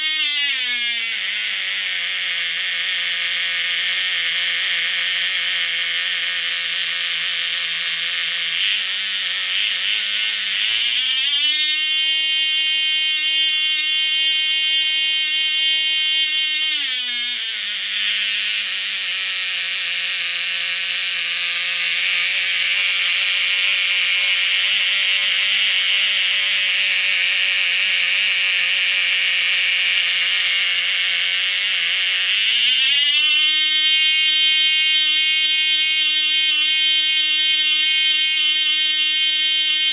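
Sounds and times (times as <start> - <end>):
model engine high-pitched buzz: 0.0 - 39.9.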